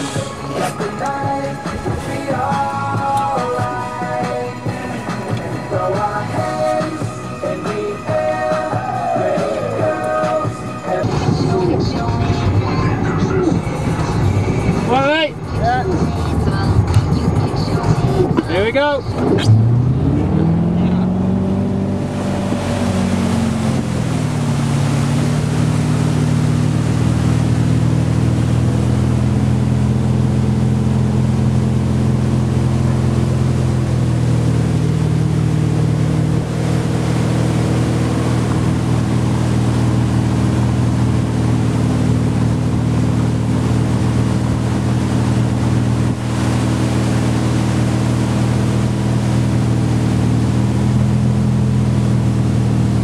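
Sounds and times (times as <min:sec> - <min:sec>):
motorboat engine: 0:00.0 - 0:53.0
rush of wind and water: 0:00.0 - 0:53.0.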